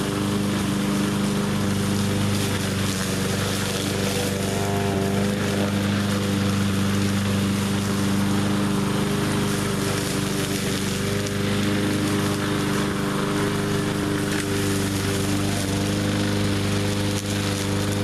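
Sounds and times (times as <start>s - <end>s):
push mower engine running: 0.0s - 18.0s.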